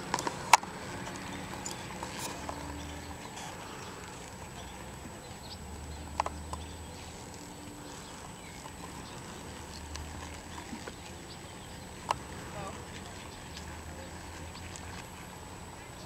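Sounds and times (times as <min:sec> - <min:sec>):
horse hoofbeats on soft dirt: 0:00.0 - 0:15.4.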